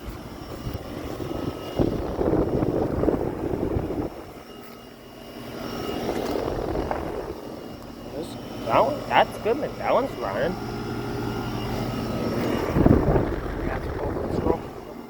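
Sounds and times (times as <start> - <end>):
air conditioner fan whoosh: 0.0 - 15.0
faint hum: 0.0 - 15.0.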